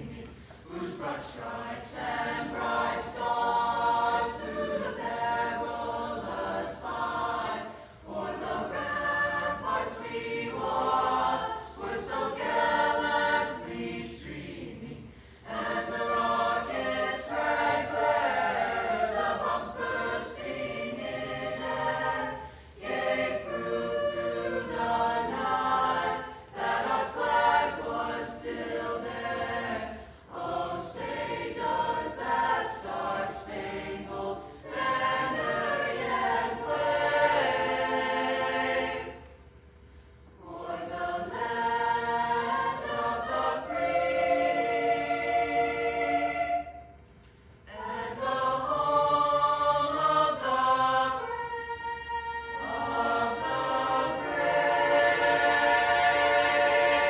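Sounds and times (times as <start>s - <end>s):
choir singing: 0.0s - 39.6s, 40.3s - 57.0s.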